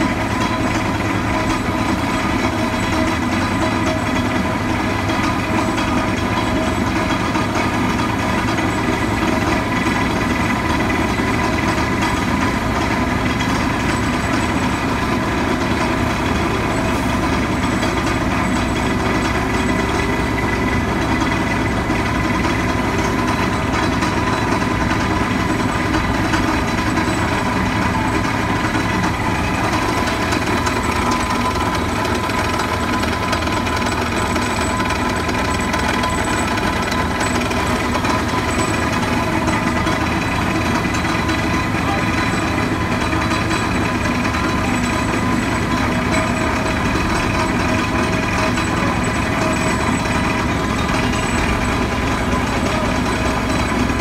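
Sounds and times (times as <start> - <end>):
vibratory pile driver droning: 0.0 - 54.0.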